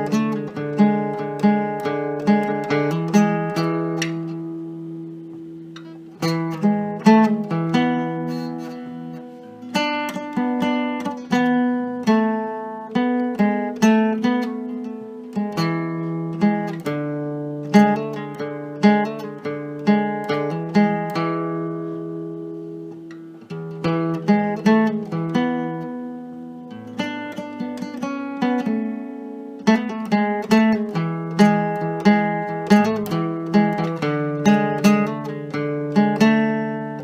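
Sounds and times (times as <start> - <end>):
acoustic string instrument strumming: 0.0 - 37.0.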